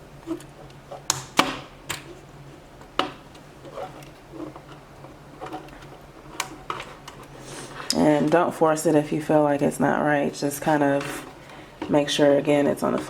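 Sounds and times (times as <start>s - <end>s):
handling knocks: 0.0s - 13.0s.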